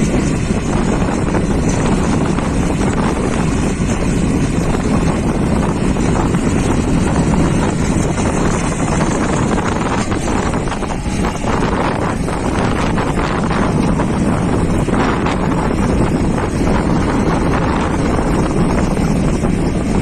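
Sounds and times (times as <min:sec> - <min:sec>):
diesel engine running: 0:00.0 - 0:20.0
wind buffeting microphone: 0:00.0 - 0:20.0.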